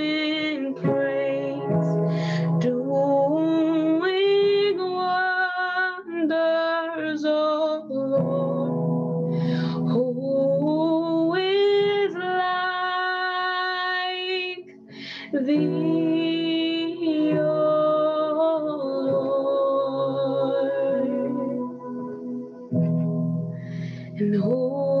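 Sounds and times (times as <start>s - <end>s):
sustained keyboard chords: 0.0s - 5.2s, 7.9s - 25.0s
woman singing: 0.0s - 8.8s, 9.5s - 22.2s, 24.1s - 25.0s.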